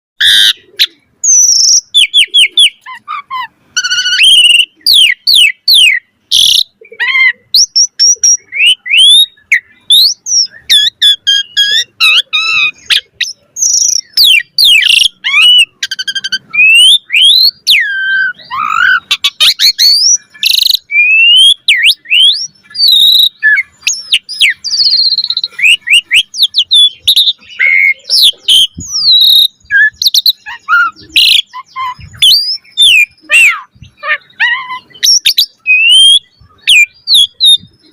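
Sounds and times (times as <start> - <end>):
starling singing: 0.2 - 37.9.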